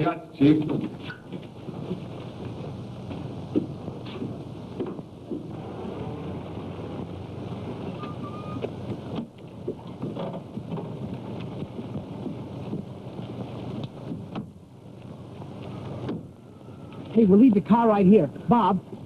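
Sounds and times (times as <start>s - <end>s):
car engine rumbling: 0.4s - 19.0s.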